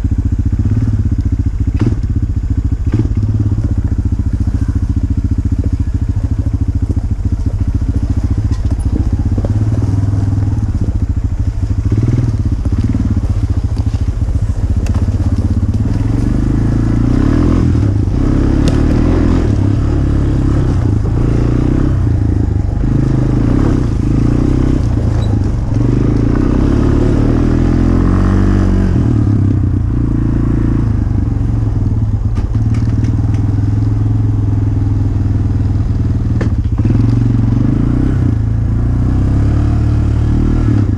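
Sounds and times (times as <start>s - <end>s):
dirt bike engine revving: 0.0s - 33.0s, 35.0s - 40.9s.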